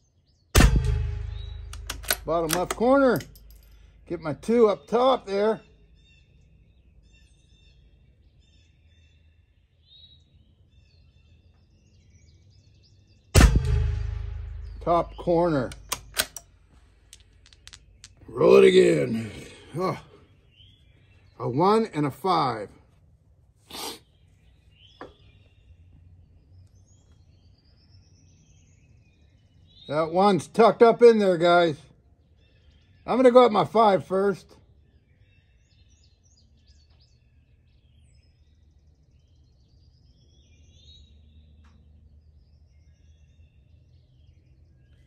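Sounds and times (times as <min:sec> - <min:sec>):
distant bird chirps: 0:00.0 - 0:23.1, 0:23.7 - 0:45.0.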